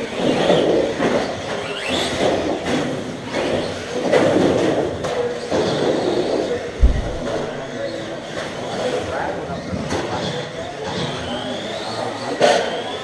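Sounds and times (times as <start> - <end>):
rc car motors whining: 0.0 - 6.8, 7.6 - 13.0.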